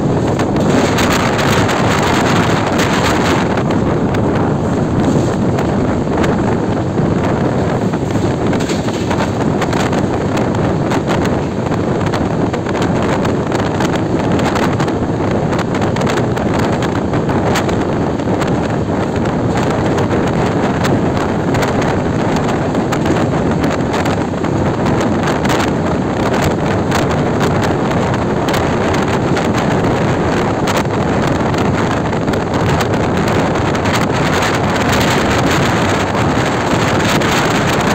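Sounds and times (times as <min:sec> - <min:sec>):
train coaches rumbling: 0:00.0 - 0:37.9
wheels clattering on track: 0:00.0 - 0:37.9
wind buffeting microphone: 0:00.0 - 0:37.9.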